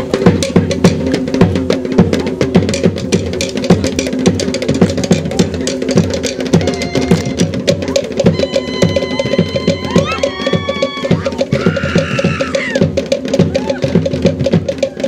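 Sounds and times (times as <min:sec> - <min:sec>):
drum ensemble playing: 0:00.0 - 0:15.0.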